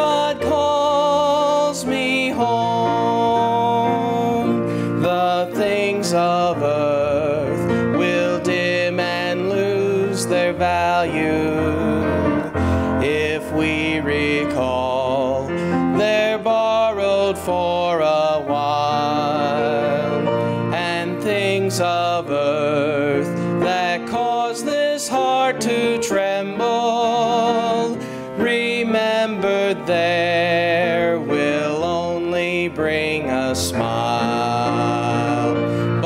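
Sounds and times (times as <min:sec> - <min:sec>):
instrumental accompaniment: 0:00.0 - 0:36.0
person singing gospel song: 0:00.0 - 0:36.0.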